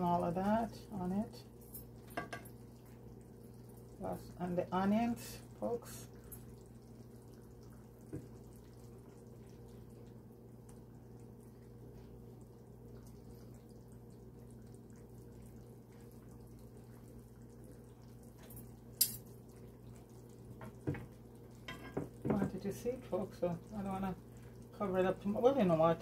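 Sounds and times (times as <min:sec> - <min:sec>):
low kitchen hum: 0:00.0 - 0:26.0.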